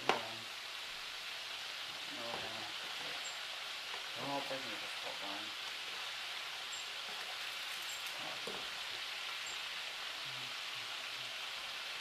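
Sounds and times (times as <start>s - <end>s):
meatballs sizzling in a pan: 0.0s - 12.0s.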